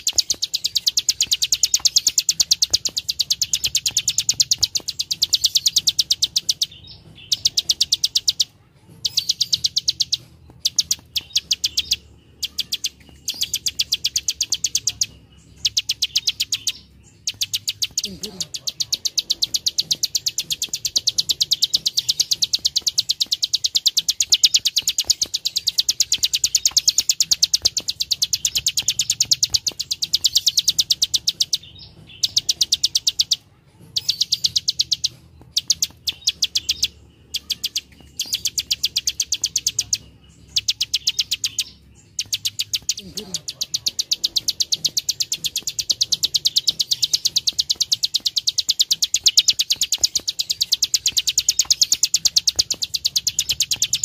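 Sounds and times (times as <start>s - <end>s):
bird clicking song: 0.0s - 54.0s.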